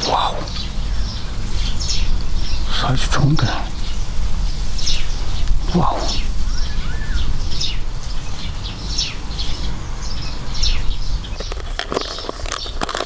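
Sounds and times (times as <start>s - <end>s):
steady low rumble: 0.0s - 11.6s
bird calling: 0.0s - 13.0s.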